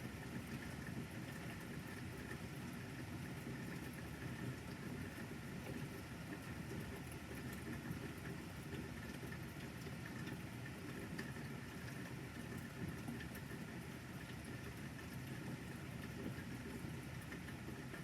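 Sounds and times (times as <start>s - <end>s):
light rain pattering: 0.0s - 18.0s.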